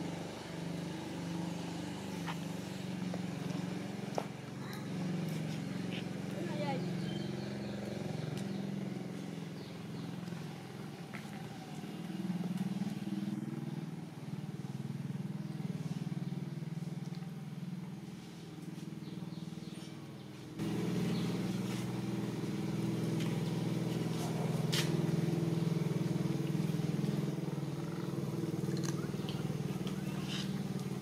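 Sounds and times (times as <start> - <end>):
low motor drone: 0.0 - 31.0.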